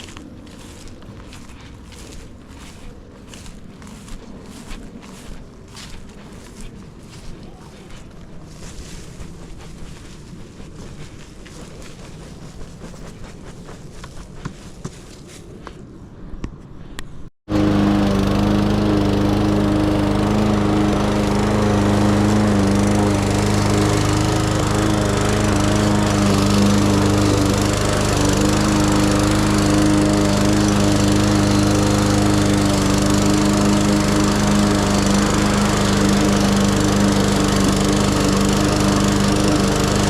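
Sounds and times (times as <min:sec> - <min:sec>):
lawn mower engine running: 0:00.0 - 0:10.0, 0:17.5 - 0:40.0.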